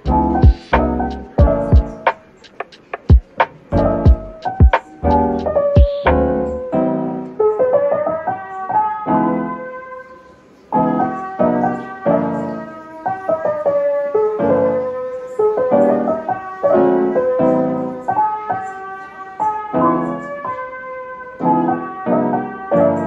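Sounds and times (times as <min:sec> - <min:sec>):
piano melody over chords: 0:00.0 - 0:23.0.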